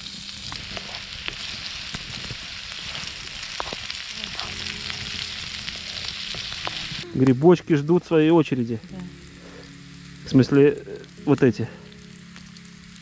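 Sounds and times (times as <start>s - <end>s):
onion sizzling in a skillet: 0.0s - 13.0s.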